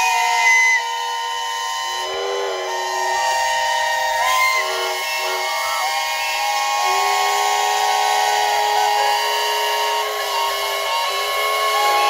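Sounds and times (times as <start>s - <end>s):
chorus of steam whistles: 0.0s - 12.0s.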